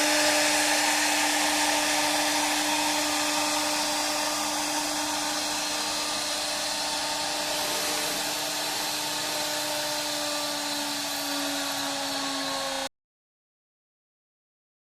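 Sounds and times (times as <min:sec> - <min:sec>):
hiss of cutting: 0:00.0 - 0:12.9
router spindle whine: 0:00.0 - 0:12.9.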